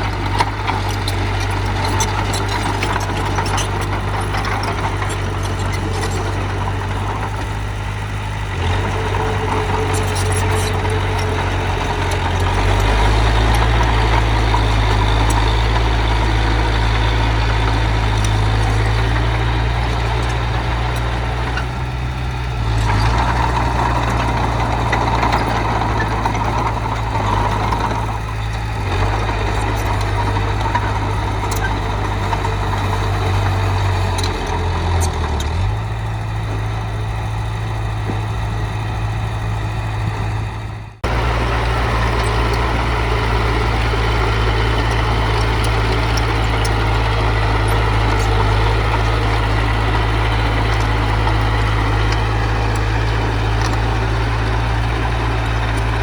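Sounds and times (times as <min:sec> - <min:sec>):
heavy machine diesel engine: 0:00.0 - 0:56.0.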